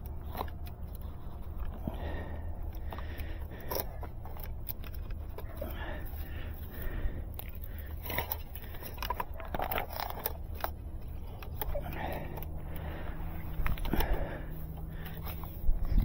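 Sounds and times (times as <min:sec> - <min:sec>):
cables rubbing and scraping: 0:00.0 - 0:16.0
steady low rumble: 0:00.0 - 0:16.0.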